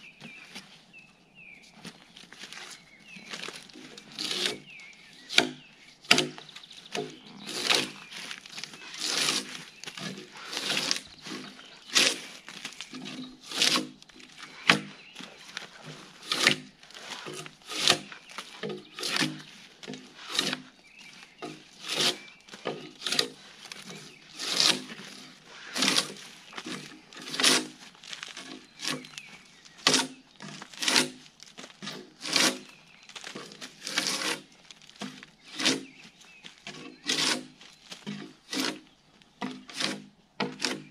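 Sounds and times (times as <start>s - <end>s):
drawknife scraping bark: 3.9s - 6.4s, 7.0s - 20.7s, 21.4s - 36.0s, 36.6s - 40.9s.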